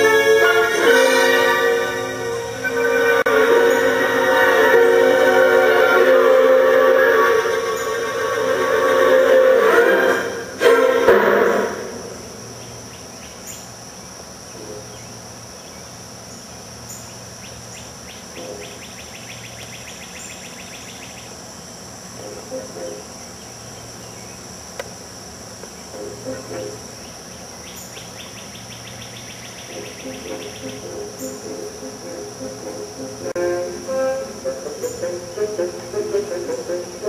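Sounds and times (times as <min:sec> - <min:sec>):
insect high trill: 0:00.0 - 0:37.0
rapid pulsed insect chirping: 0:00.0 - 0:37.0.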